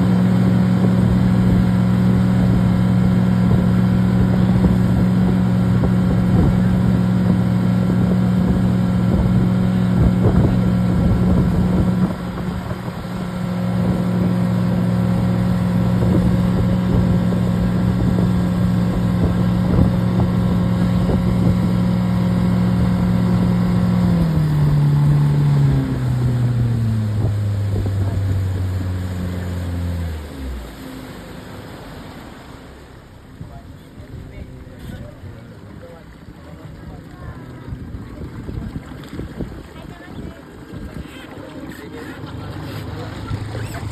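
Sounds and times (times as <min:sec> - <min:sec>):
motorboat engine running: 0:00.0 - 0:43.9
water noise: 0:00.0 - 0:43.9
wind: 0:00.0 - 0:43.9.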